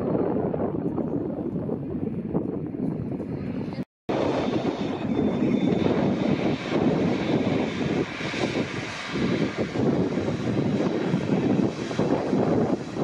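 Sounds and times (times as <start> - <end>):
jet engines rushing with whine: 0.0 - 13.0.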